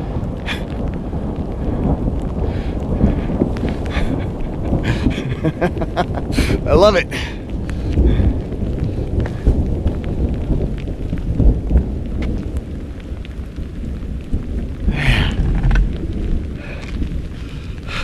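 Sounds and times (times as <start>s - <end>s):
deep rumble: 0.0s - 18.0s
heavy rain falling: 0.0s - 18.0s
raindrop ticks: 0.0s - 18.0s.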